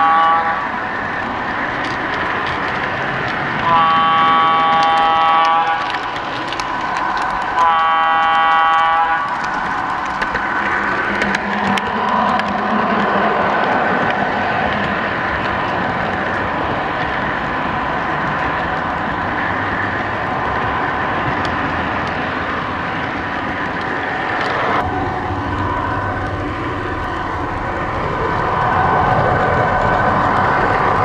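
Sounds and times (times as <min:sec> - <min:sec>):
constant whine: 0:00.0 - 0:31.0
model train rumbling: 0:00.0 - 0:31.0.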